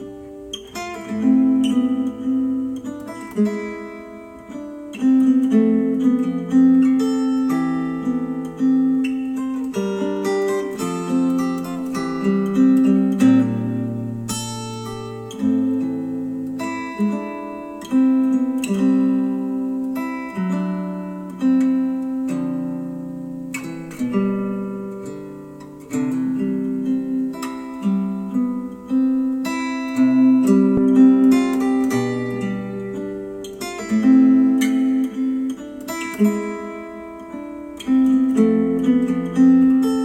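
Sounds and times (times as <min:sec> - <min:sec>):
acoustic guitar music over speakers: 0:00.0 - 0:40.0.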